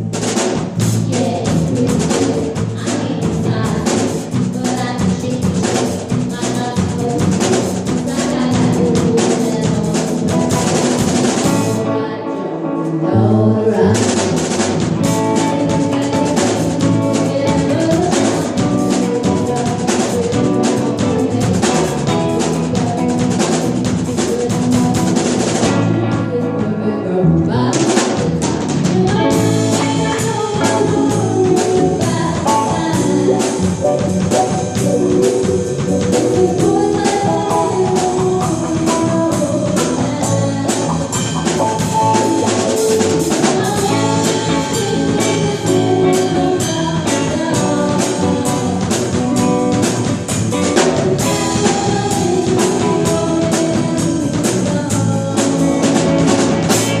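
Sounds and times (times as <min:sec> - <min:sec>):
drum rimshots and bass drum: 0:00.0 - 0:11.8, 0:14.0 - 0:26.3, 0:27.7 - 0:57.0
live band playing: 0:00.0 - 0:57.0.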